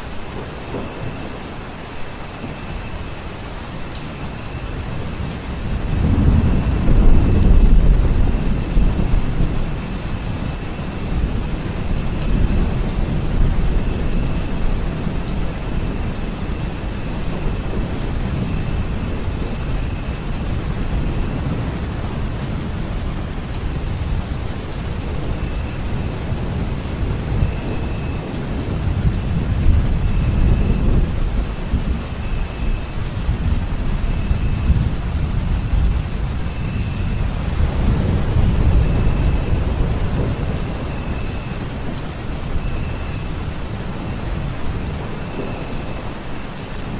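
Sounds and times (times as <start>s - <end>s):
steady rain falling: 0.0s - 46.9s
low rolling thunder: 0.2s - 46.9s.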